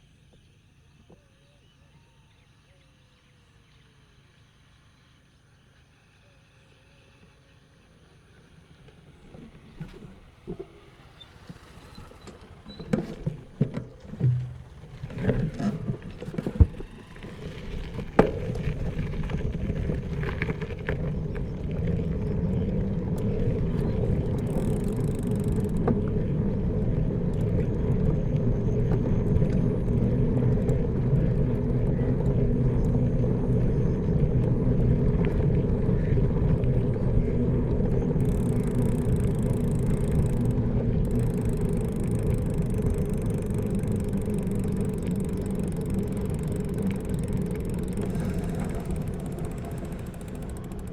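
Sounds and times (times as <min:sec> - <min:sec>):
low road rumble: 0:08.0 - 0:50.9.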